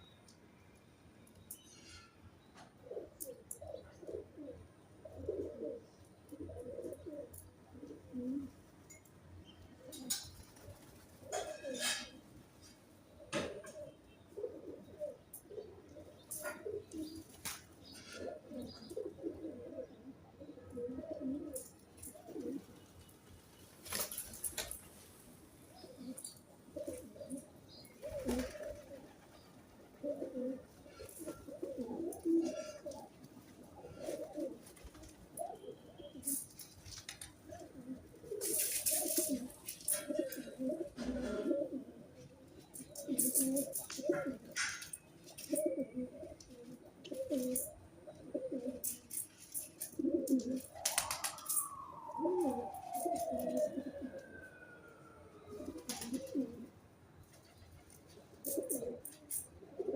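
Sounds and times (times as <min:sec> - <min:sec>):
pigeons cooing: 0:02.6 - 0:08.6, 0:09.7 - 0:22.8, 0:25.6 - 0:56.8, 0:57.5 - 0:59.9.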